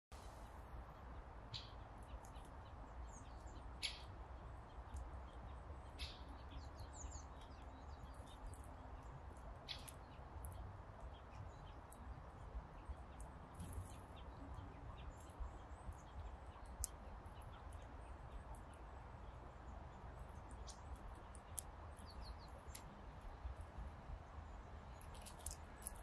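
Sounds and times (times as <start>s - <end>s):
small birds chirping: 0.2s - 26.0s.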